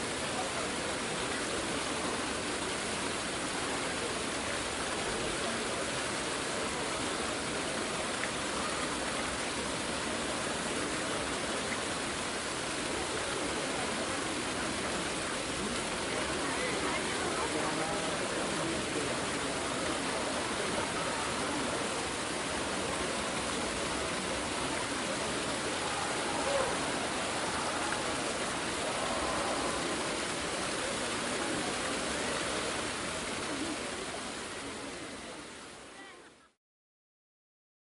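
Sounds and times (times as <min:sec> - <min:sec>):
crowd murmur: 0:00.0 - 0:36.6.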